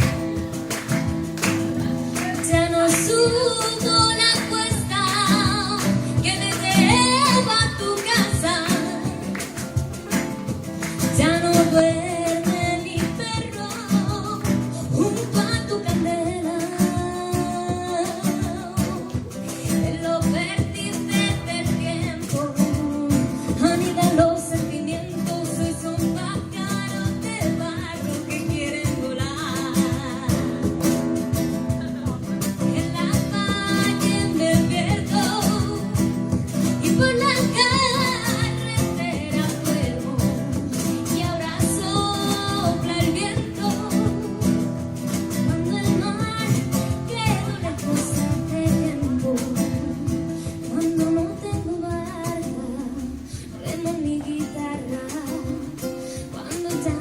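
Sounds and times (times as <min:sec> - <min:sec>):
acoustic guitar: 0:00.0 - 0:57.0
cajon beat: 0:00.0 - 0:57.0.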